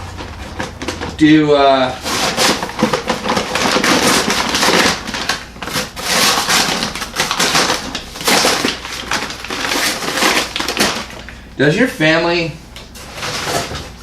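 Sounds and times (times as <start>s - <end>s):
plastic bag of beans crinkling: 0.0s - 12.0s.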